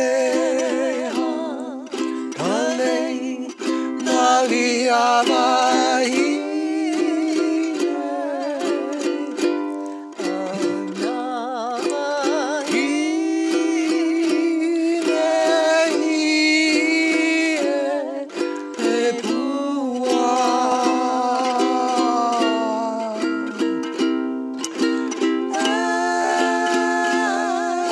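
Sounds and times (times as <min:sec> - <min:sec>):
man and woman singing: 0:00.0 - 0:27.9
strummed ukulele: 0:00.0 - 0:27.9.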